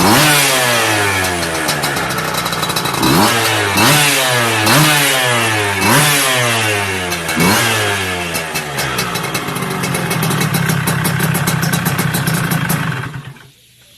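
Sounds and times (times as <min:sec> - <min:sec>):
two-stroke engine blipping and idling: 0:00.0 - 0:13.6.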